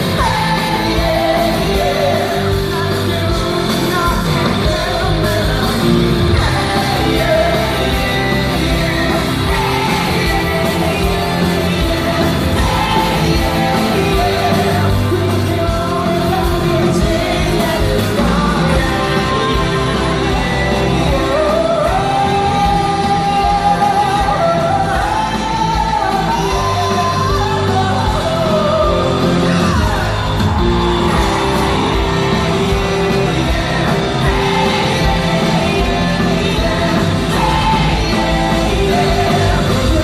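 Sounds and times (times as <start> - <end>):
live rock band: 0.0 - 40.0
singer's sliding vocals: 0.0 - 40.0.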